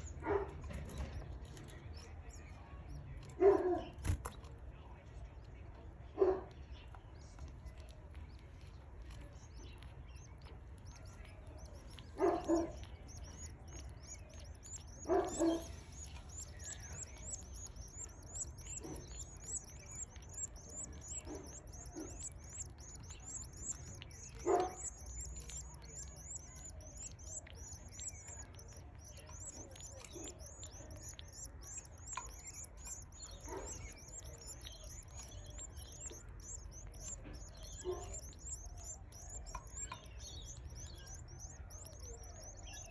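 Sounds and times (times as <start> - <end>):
canary chicks cheeping: 0.0 - 42.9.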